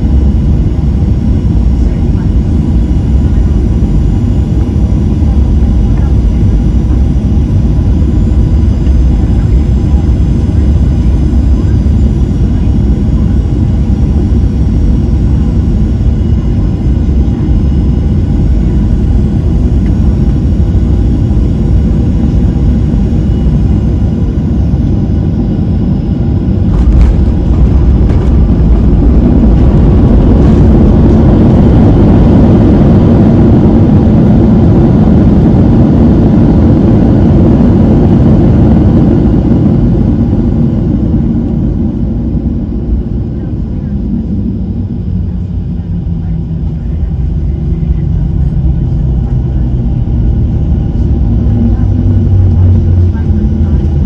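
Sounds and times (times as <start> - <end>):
faint engine tones: 0.0 - 54.0
jet engine and airflow rush: 0.0 - 54.0.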